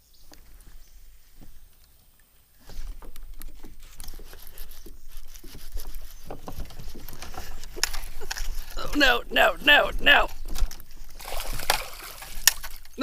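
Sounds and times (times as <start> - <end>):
rustling and scraping: 2.6 - 13.0.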